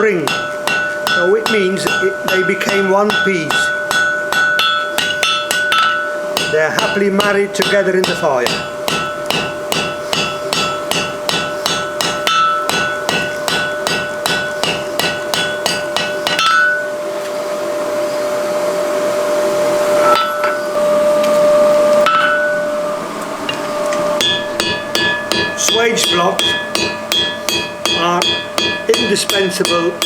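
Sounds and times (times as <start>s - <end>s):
hammer striking steel on anvil: 0.0s - 16.9s, 20.0s - 20.7s, 22.0s - 22.7s, 24.2s - 30.0s
held ringing tone: 0.0s - 17.2s, 19.3s - 30.0s.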